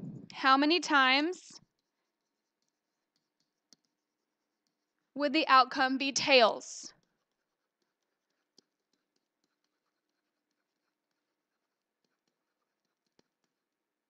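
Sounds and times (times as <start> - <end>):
stylus writing on tablet screen: 0.0 - 14.0.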